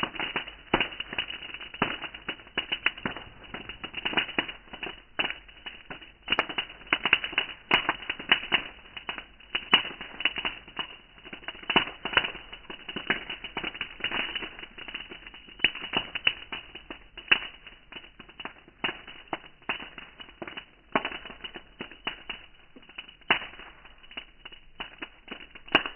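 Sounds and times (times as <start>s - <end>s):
bonfire crackling and popping: 0.0s - 25.9s.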